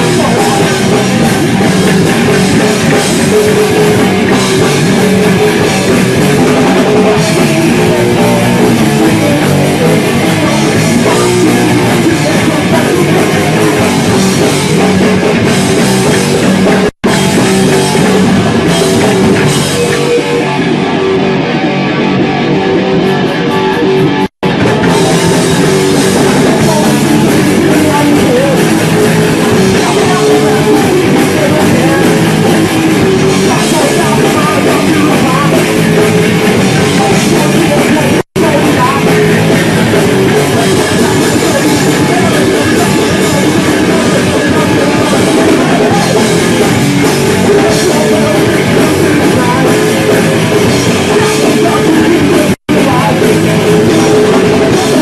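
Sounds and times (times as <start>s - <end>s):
punk rock band playing live: 0.0s - 55.0s.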